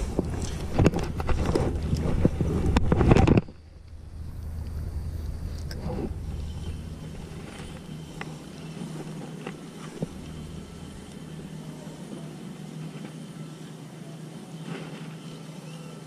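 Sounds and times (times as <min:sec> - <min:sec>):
low engine-like drone: 0:00.0 - 0:16.0.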